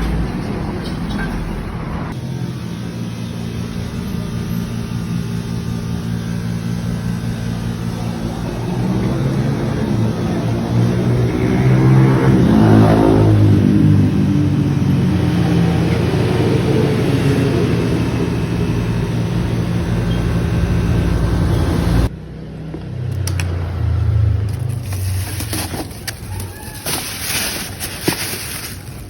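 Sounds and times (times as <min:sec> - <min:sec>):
motorcycle engine revving: 0:01.7 - 0:29.0.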